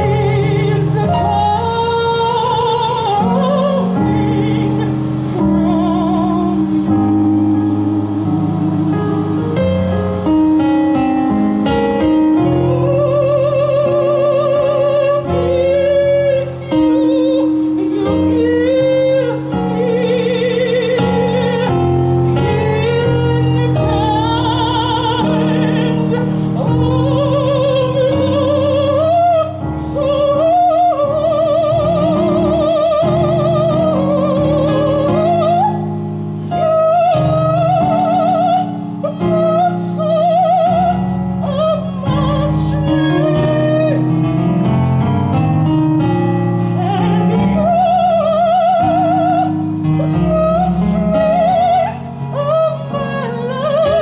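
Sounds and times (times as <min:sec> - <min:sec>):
woman singing operatically: 0:00.0 - 0:10.3, 0:11.7 - 0:44.6, 0:46.7 - 0:54.0
electronic keyboard chords: 0:00.0 - 0:54.0.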